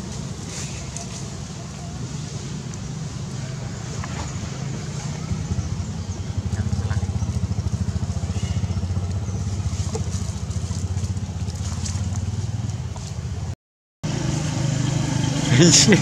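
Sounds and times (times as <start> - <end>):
small engine idling: 0.1 - 13.4, 14.0 - 16.0.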